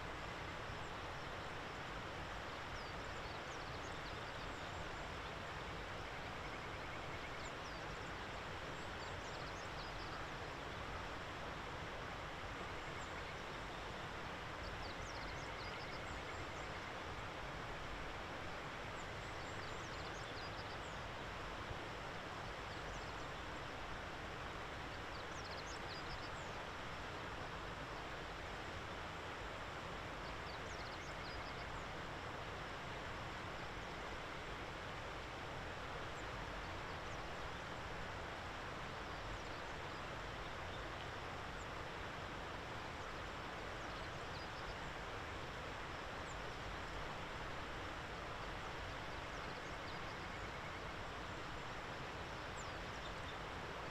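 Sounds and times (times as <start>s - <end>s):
outdoor background noise: 0.0s - 53.9s.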